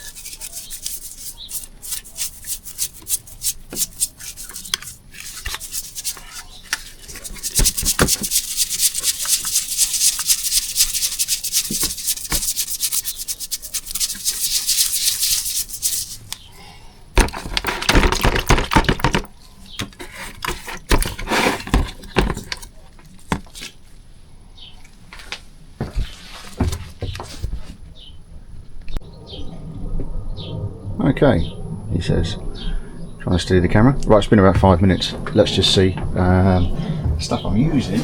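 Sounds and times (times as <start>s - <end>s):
scraping and scrubbing metal: 0.0s - 16.5s, 17.2s - 23.7s, 29.0s - 38.0s.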